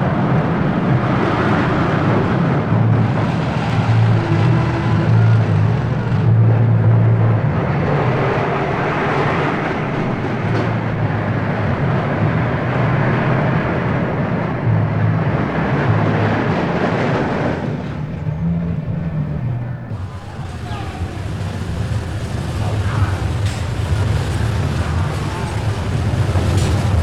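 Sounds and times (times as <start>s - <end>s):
fairground ride mechanical rumble: 0.0s - 27.0s.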